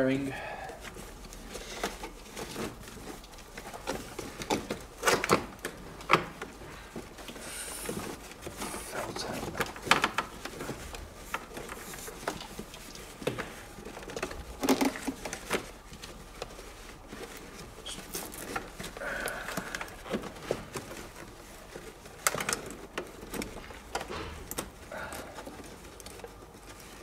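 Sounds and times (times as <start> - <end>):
wiring and lining being handled: 0.0 - 27.0.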